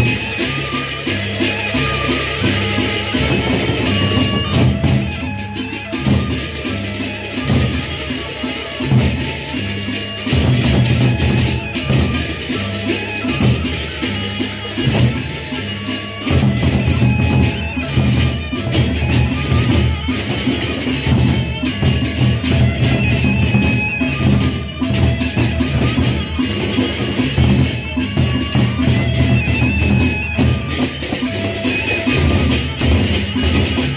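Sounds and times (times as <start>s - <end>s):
bright metal percussion: 0.0s - 33.9s.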